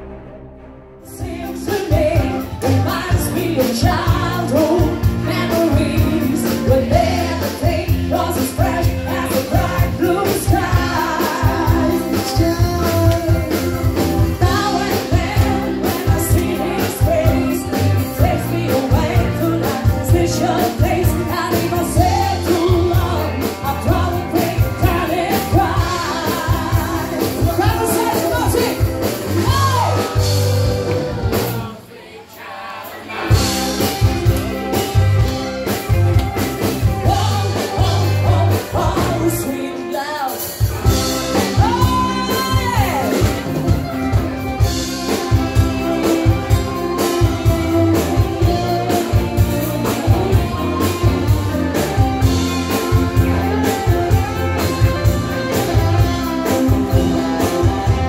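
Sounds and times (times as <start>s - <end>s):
rock drums and bass: 0.0s - 31.8s, 33.2s - 58.0s
person singing: 1.0s - 35.8s, 36.6s - 58.0s.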